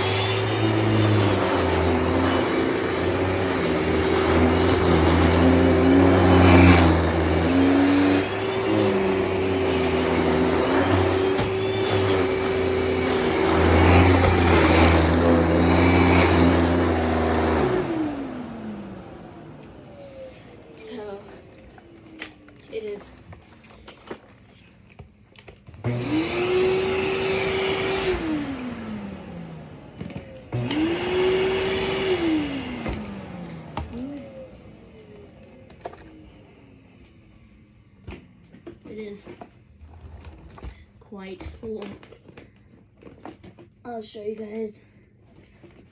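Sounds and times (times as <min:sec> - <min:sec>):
vacuum cleaner running: 0:00.0 - 0:43.7.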